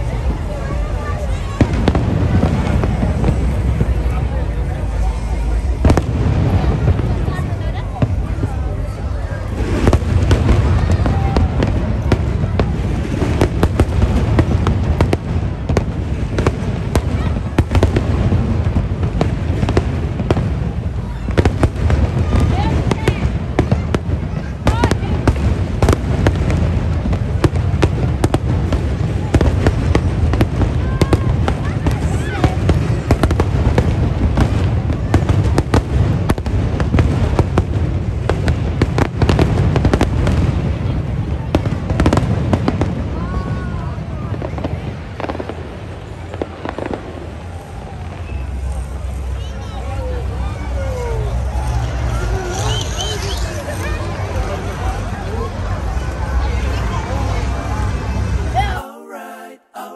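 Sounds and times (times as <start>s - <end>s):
fireworks bangs and crackles: 0.0s - 58.6s.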